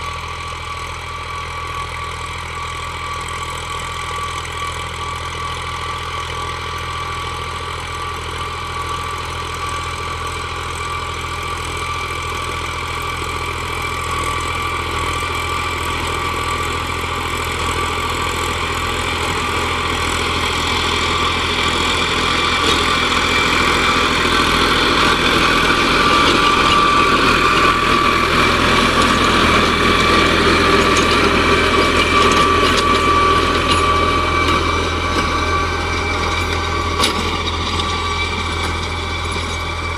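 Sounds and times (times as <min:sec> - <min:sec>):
tractor diesel engine running: 0:00.0 - 0:39.9
steady engine whine: 0:07.4 - 0:39.9.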